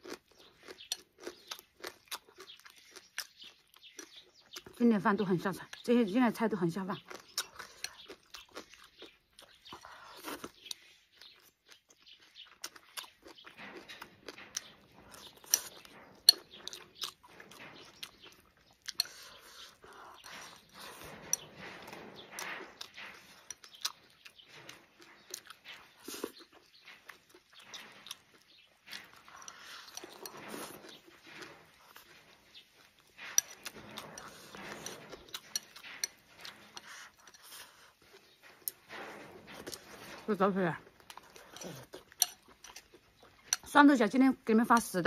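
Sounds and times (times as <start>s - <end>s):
chewing and crunching: 0.0s - 45.0s.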